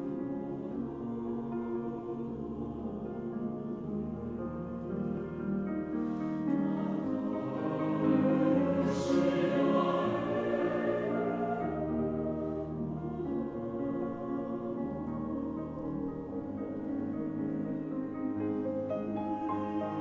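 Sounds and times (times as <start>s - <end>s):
mixed chorus singing: 0.0s - 5.0s, 6.1s - 20.0s
piano: 0.0s - 20.0s.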